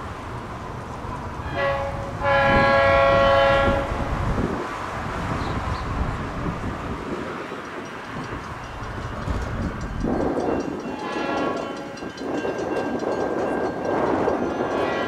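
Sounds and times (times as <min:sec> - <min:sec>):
commuter train rumbling past: 0:00.0 - 0:15.0.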